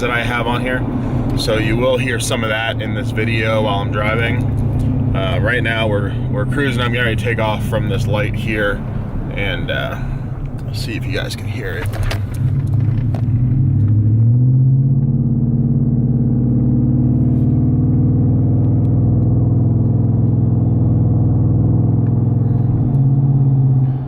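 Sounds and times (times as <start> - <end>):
truck engine accelerating: 0.0 - 24.0.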